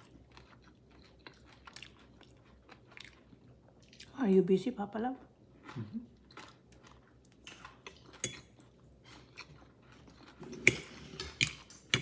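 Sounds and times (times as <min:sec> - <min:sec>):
person chewing food: 0:00.0 - 0:04.1, 0:05.3 - 0:12.0.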